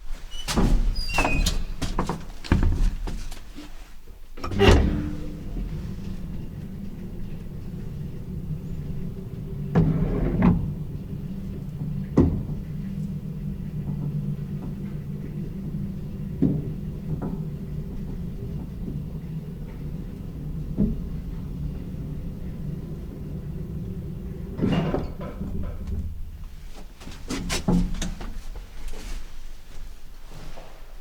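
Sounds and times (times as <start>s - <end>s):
elevator humming: 0.0s - 3.3s, 4.2s - 27.0s
elevator mechanical clunks: 0.3s - 3.0s, 4.3s - 28.2s.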